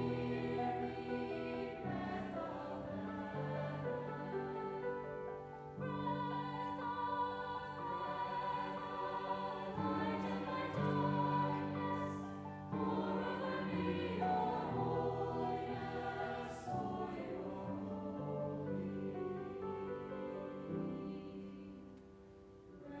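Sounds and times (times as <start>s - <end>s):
choir holding chords: 0.0s - 23.0s.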